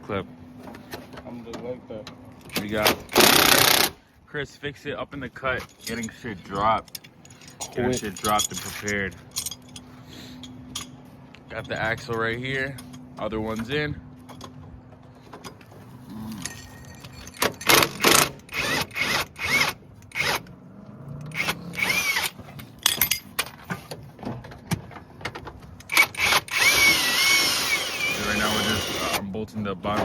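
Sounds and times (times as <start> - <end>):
tools and metal parts clanking: 0.6 - 3.9, 5.3 - 20.6, 21.3 - 29.2.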